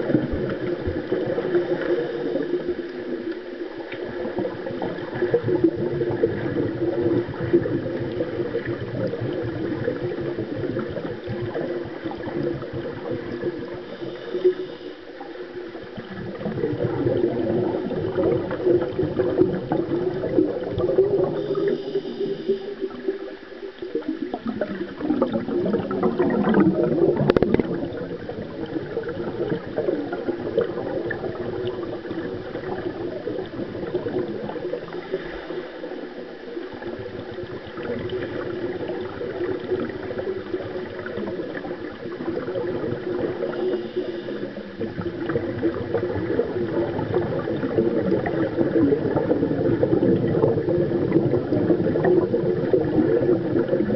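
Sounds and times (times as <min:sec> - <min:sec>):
crackle of bubbles: 0:00.0 - 0:53.9
swimmers churning water underwater: 0:00.0 - 0:53.9.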